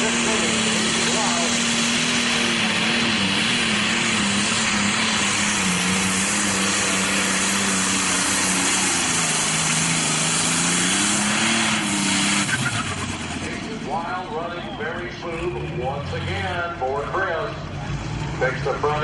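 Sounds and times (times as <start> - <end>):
diesel tractor engine under load: 0.0 - 19.0.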